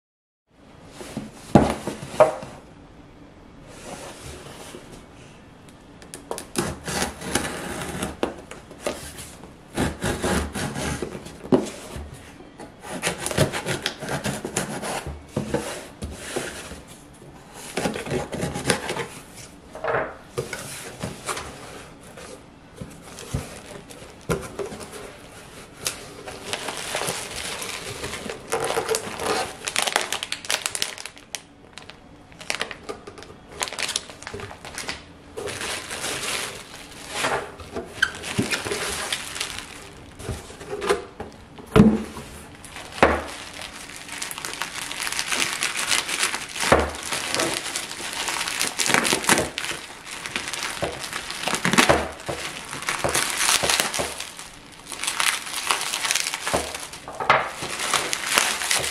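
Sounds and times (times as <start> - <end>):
bubble wrap crinkling and rustling: 6.0 - 19.6, 20.3 - 58.9.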